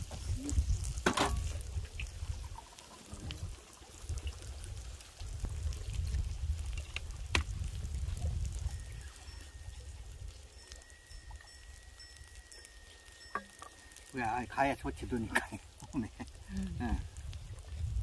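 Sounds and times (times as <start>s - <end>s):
meat sizzling on a griddle: 0.0s - 18.0s.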